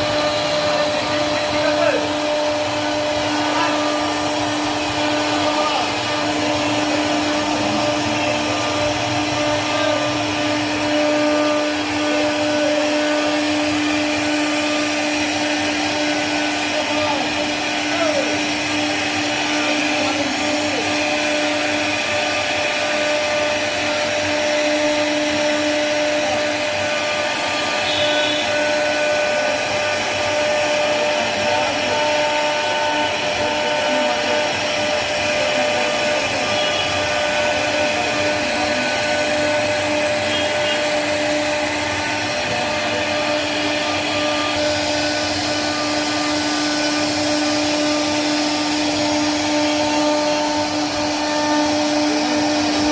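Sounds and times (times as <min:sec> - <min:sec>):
hiss of wood being cut: 0:00.0 - 0:52.9
router spindle high whine: 0:00.0 - 0:52.9.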